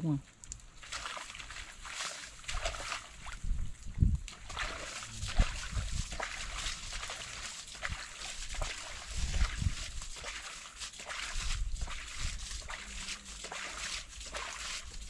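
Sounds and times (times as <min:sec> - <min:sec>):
water splashing and sloshing: 0:00.2 - 0:15.0.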